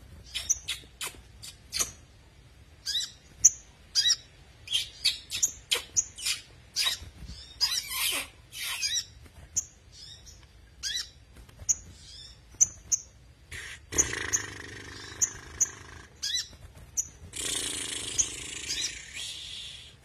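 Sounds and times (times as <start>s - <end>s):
low hum noise: 0.0s - 20.0s
bird chirping: 0.1s - 2.1s, 2.8s - 20.0s.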